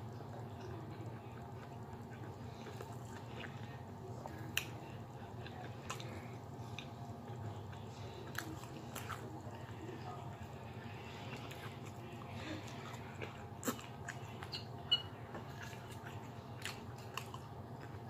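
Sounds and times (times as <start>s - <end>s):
steady low hum: 0.0s - 18.0s
person chewing food: 0.2s - 18.0s.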